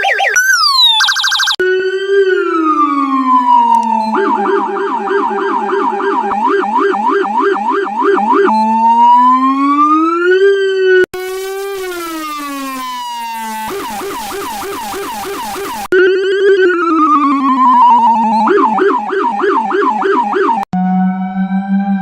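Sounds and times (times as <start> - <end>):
electronic police siren: 0.0 - 22.0.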